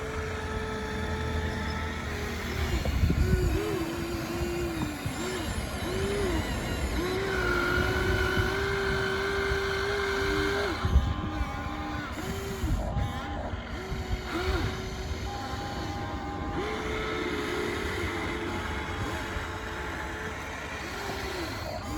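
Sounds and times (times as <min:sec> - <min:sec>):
higher motor whine: 0:00.0 - 0:21.9
small electric motors whining: 0:00.0 - 0:21.9.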